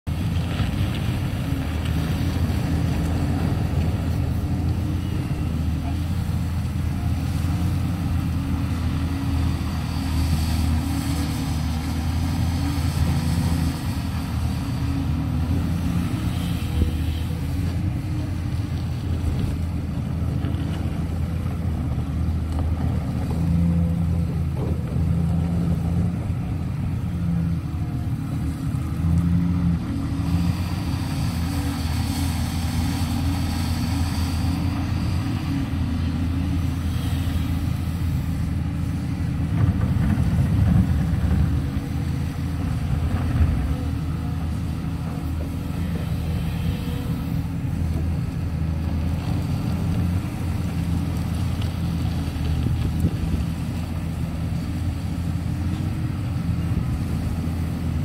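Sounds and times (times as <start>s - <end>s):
excavator diesel engine droning: 0.1s - 58.0s.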